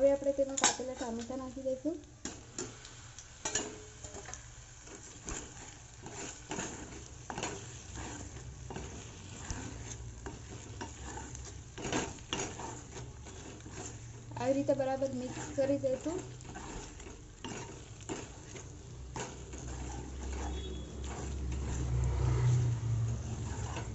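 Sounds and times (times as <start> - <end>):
faint frying sizzle: 0.0 - 23.9
spoon scraping metal pan: 3.4 - 23.9.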